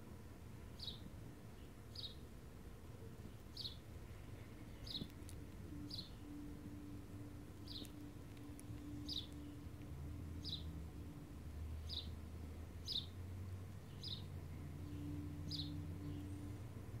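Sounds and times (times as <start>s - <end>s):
low steady hum: 0.0s - 17.0s
bird chirping: 0.7s - 2.3s, 3.2s - 17.0s.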